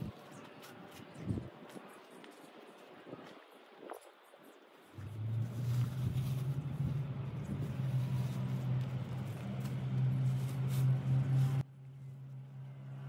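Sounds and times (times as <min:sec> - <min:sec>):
surrounding noise: 0:00.0 - 0:13.0.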